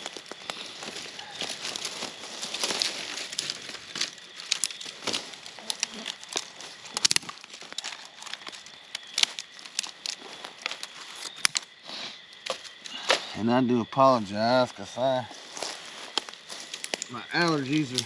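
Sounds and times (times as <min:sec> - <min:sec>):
twigs snapping: 0:00.0 - 0:13.3, 0:15.4 - 0:18.0
leaves and twigs crackling: 0:00.0 - 0:18.0.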